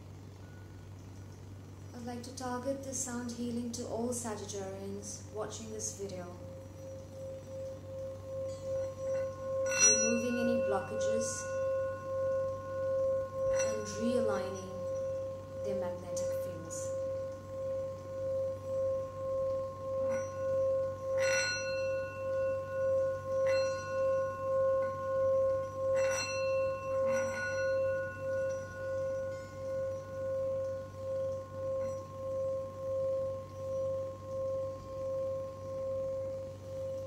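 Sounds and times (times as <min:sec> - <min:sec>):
singing bowl ringing tone: 0:00.4 - 0:37.0.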